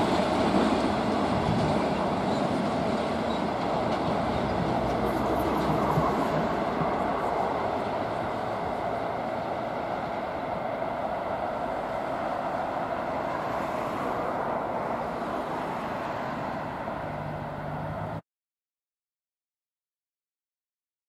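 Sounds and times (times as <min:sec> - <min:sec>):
train wheels rolling on rails: 0:00.0 - 0:18.2.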